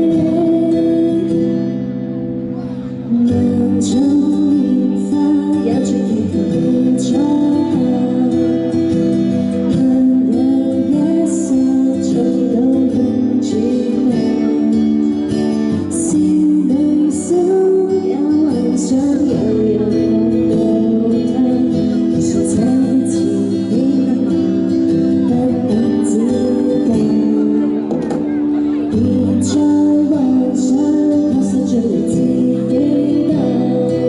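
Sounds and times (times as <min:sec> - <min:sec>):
woman singing a pop ballad: 0:00.0 - 0:01.9, 0:02.9 - 0:34.0.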